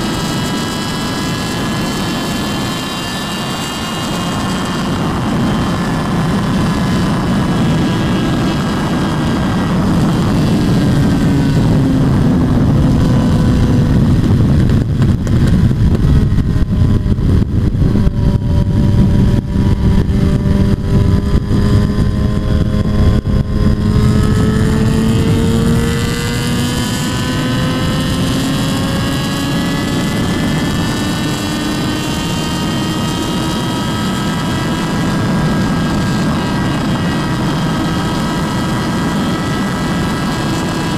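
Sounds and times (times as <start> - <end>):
motorcycle engine: 0.0 - 40.9
wind buffeting microphone: 0.0 - 40.9.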